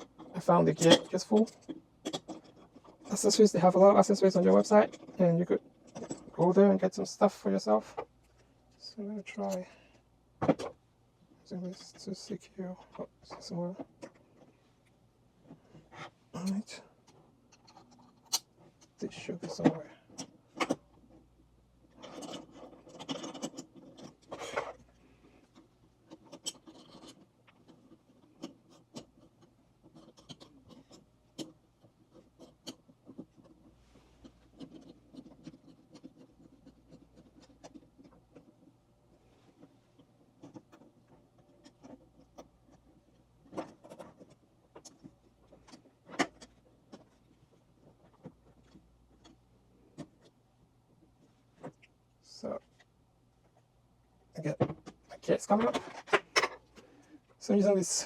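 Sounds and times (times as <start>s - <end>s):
rubbing and scraping: 0.0s - 7.1s, 10.5s - 53.7s, 54.4s - 58.0s.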